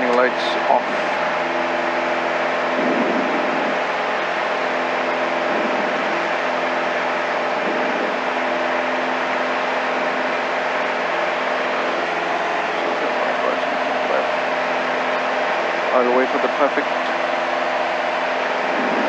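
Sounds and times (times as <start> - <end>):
light aircraft engine drone: 0.0 - 19.0.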